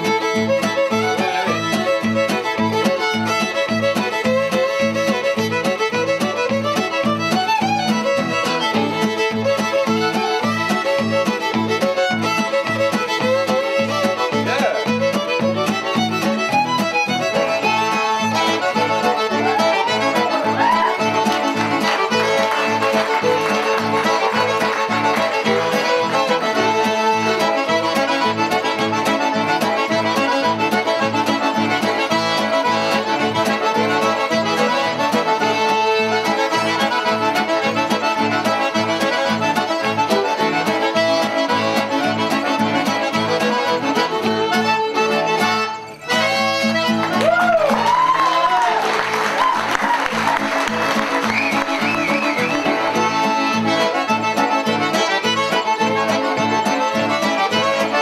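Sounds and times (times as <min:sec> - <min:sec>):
upbeat fiddle and accordion music: 0:00.0 - 0:58.0.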